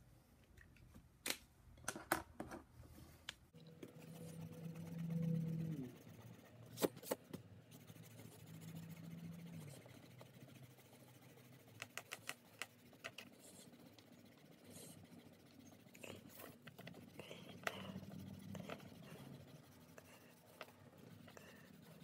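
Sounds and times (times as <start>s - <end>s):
eraser rubbing on paper: 3.9s - 22.0s.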